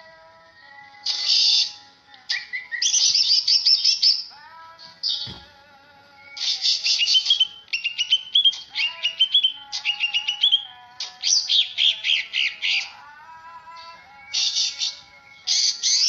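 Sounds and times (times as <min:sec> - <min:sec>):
songbird chirping: 0:00.6 - 0:16.0.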